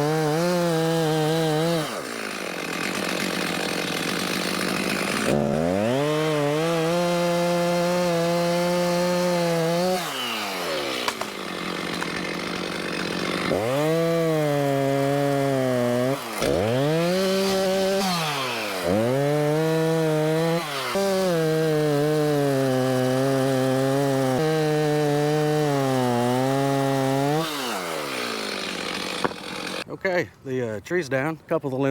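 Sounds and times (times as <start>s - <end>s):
chainsaw cutting wood: 0.0s - 29.9s.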